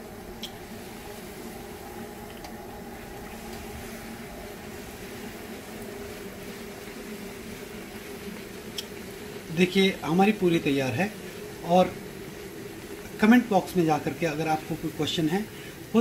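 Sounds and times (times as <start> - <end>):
dough frying in hot oil: 0.0 - 16.0.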